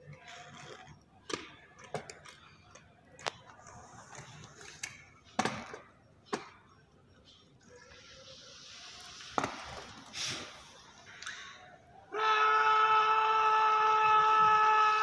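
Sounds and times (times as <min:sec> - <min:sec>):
faint background murmur: 0:00.0 - 0:12.2.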